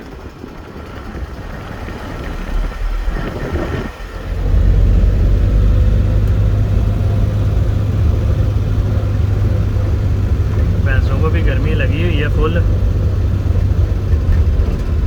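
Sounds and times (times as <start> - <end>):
car engine and road noise: 0.0 - 15.0
heavy low rumble: 0.1 - 15.0.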